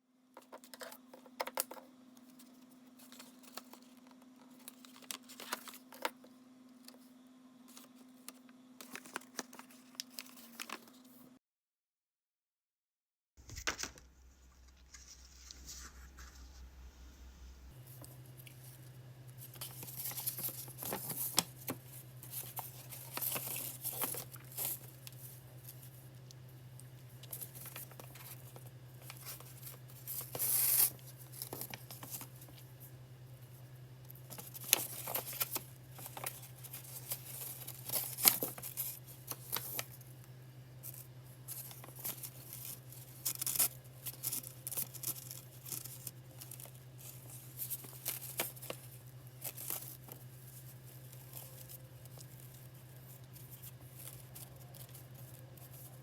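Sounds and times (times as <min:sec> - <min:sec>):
paper crinkling and rustling: 0:00.4 - 0:07.1, 0:07.7 - 0:11.2, 0:17.8 - 0:26.1, 0:26.8 - 0:40.1, 0:40.8 - 0:56.0.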